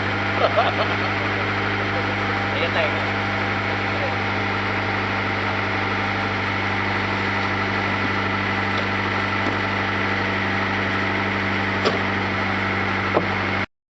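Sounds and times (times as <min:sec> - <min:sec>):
engine humming: 0:00.0 - 0:13.7.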